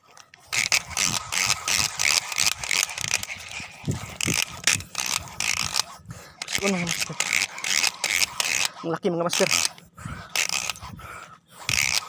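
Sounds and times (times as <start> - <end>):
phone rattling and scraping: 0.0 - 11.0, 11.6 - 12.0.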